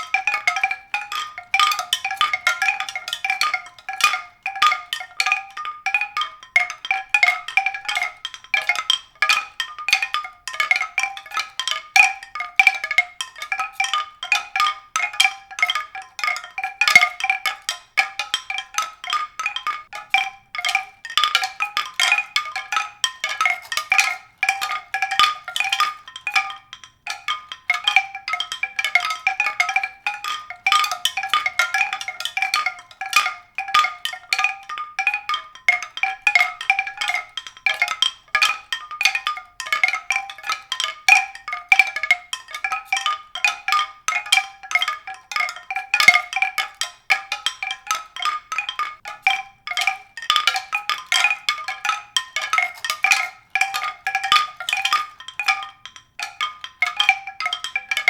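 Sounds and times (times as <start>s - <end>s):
mallet percussion music: 0.0s - 58.0s.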